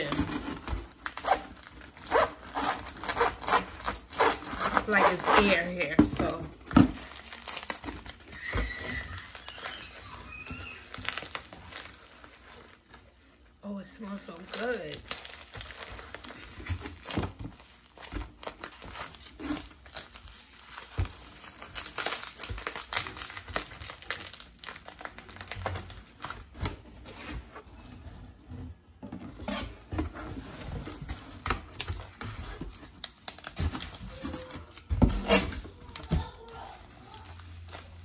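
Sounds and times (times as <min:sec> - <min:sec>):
bubble wrap tearing: 0:00.0 - 0:28.0, 0:29.4 - 0:38.0
bubble wrap crinkling: 0:00.0 - 0:38.0.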